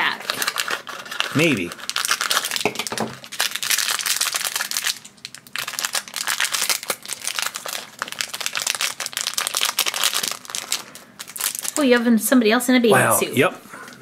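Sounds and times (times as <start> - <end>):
foil bag crinkling: 0.0 - 12.0.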